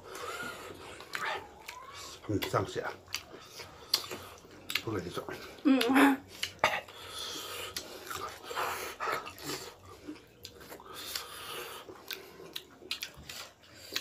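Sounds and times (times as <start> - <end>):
people chewing and lip smacking: 0.0 - 14.0.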